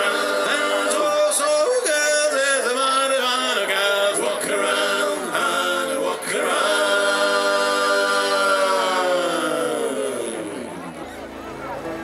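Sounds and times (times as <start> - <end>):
men singing a sea shanty: 0.0 - 10.5.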